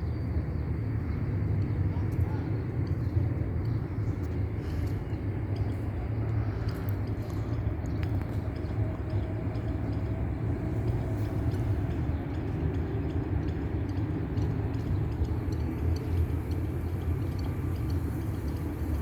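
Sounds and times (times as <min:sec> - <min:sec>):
steady low rumbling: 0:00.0 - 0:19.0.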